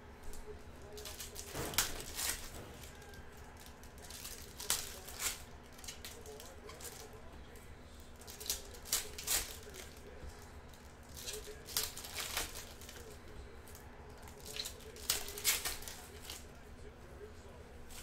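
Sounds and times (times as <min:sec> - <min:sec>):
faint steady hum: 0:00.0 - 0:18.0
cards and wrapper rustling: 0:00.8 - 0:16.6.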